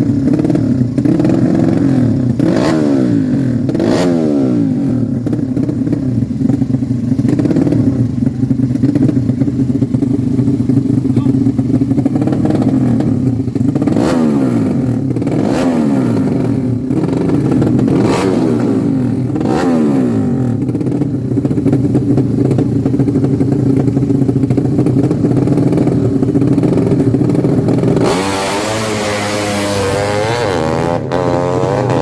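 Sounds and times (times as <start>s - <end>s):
loud motorcycle engines: 0.0s - 32.0s
motorcycle engine rev blips: 0.0s - 32.0s.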